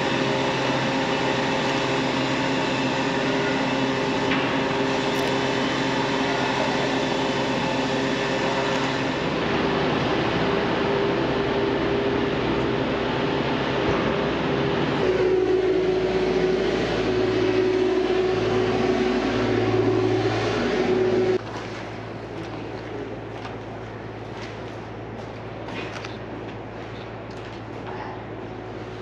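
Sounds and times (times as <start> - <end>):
mechanical hum with whine: 0.0 - 29.0
street noise: 0.0 - 29.0.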